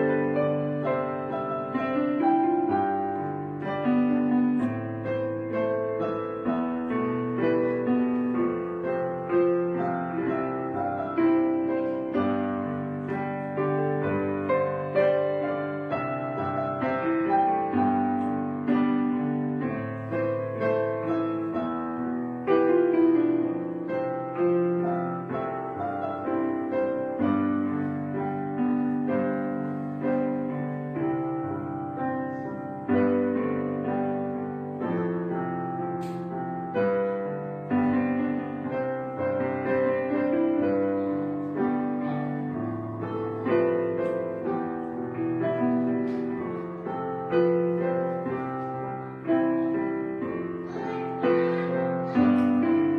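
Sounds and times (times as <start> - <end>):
gentle piano music: 0.0 - 52.9.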